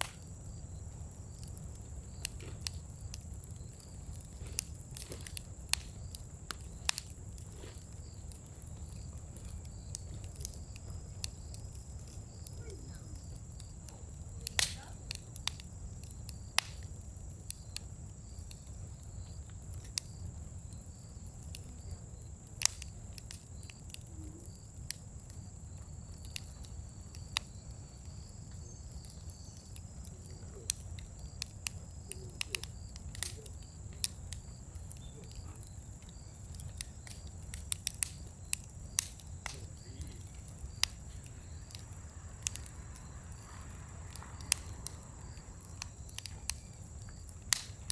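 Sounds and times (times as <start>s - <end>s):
bonfire crackling and popping: 0.0s - 47.9s.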